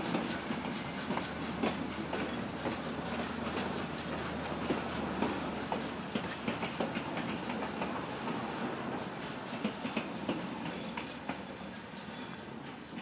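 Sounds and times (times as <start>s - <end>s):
train rumble: 0.0s - 13.0s
train wheels clickety-clack: 0.0s - 13.0s.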